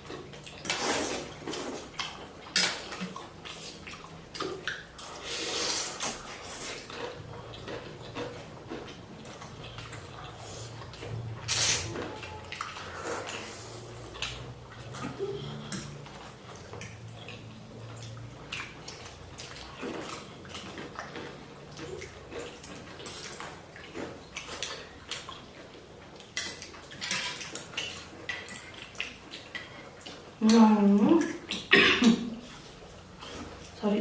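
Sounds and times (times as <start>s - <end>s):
wet slurping: 0.0s - 30.4s.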